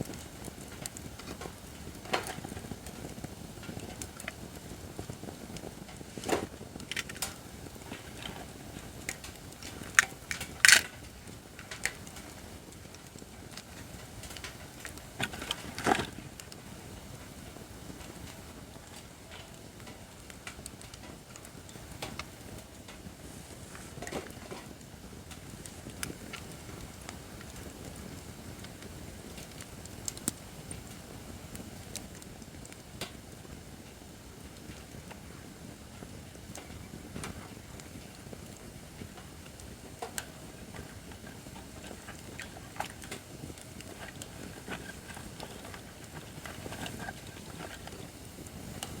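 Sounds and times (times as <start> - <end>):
firewood crackling and popping: 0.0 - 49.0
flames hissing: 0.0 - 49.0.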